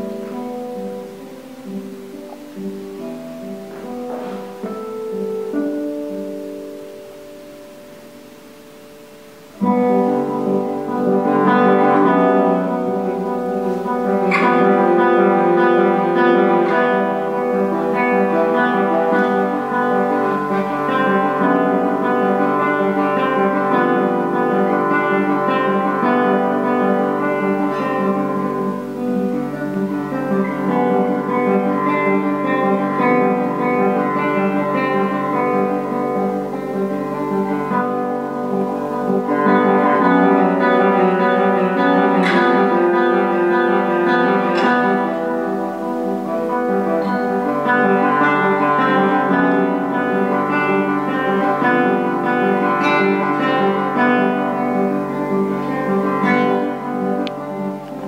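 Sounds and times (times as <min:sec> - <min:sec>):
classical guitar fingerpicking: 0:00.0 - 0:58.0.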